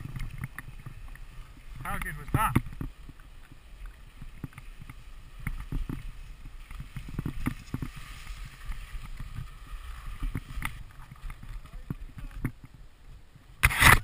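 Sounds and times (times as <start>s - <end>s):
skis scraping over snow: 0.0s - 12.4s.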